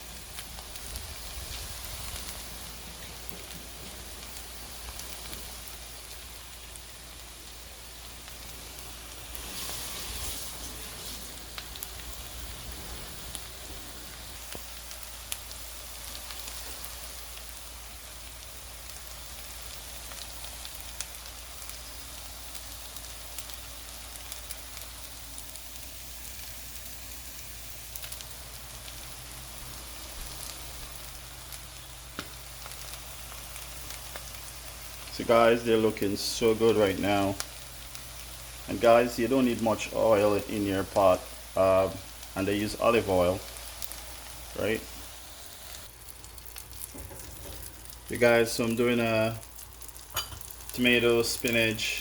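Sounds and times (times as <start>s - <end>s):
pancakes sizzling in a pan: 0.0s - 52.0s.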